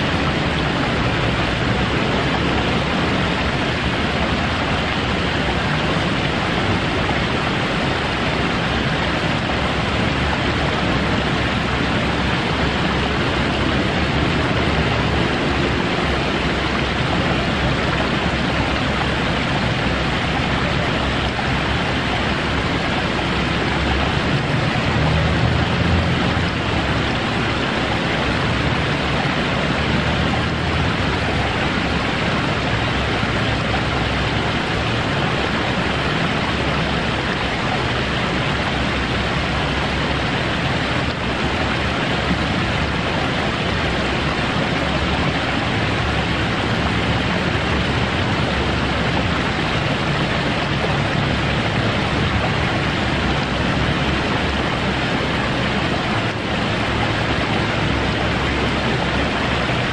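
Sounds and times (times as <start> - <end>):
waterfall wall spilling: 0.0 - 59.9.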